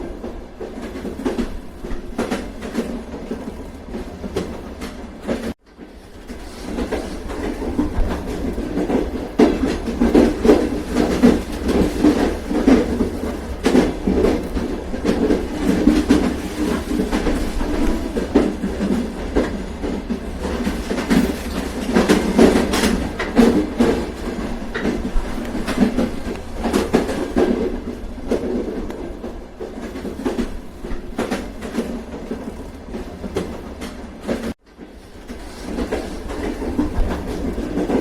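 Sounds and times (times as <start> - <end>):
train rumbling along track: 0.0 - 38.0
wheels clicking over rail joints: 0.0 - 38.0.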